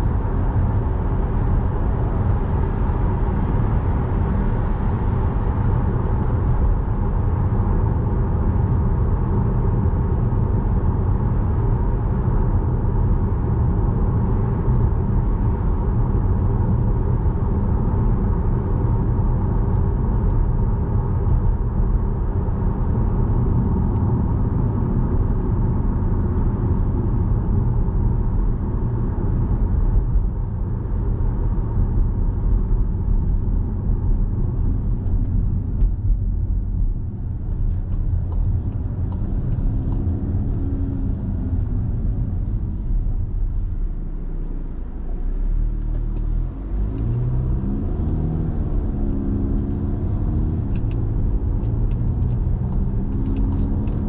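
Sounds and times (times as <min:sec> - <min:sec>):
car engine hum: 0:00.0 - 0:54.0
road and tyre noise: 0:00.0 - 0:54.0.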